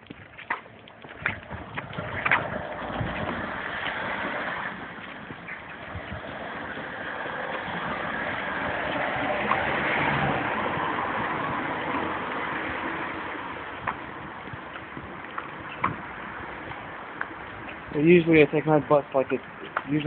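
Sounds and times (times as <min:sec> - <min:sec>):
road vehicle passing by: 0:00.9 - 0:20.0.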